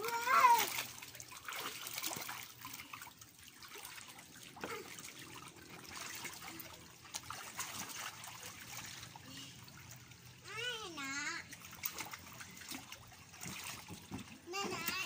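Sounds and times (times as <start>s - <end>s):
garden hose running: 0.0s - 15.0s
kids moving through water: 0.0s - 15.0s
water trickling and splashing: 0.0s - 15.0s.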